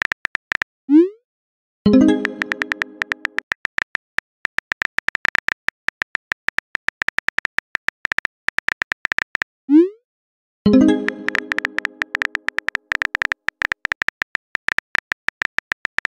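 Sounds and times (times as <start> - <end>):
phone keyboard clicks: 0.0 - 0.7, 2.0 - 9.5, 11.0 - 16.0.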